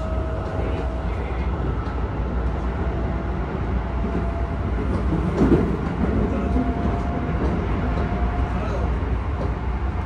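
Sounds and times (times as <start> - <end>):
train clatter: 0.0 - 10.0
train wheels and motors rumbling: 0.0 - 10.0.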